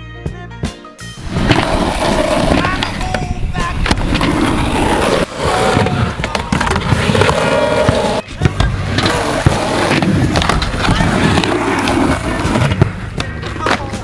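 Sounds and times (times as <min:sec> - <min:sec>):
skateboard wheels rolling on asphalt: 0:01.2 - 0:14.0
skateboard clacking on ground: 0:01.4 - 0:04.5, 0:05.6 - 0:14.0.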